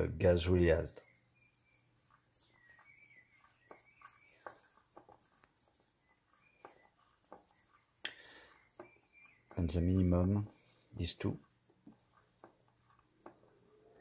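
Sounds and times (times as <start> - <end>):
faint scratching: 1.4 - 14.0.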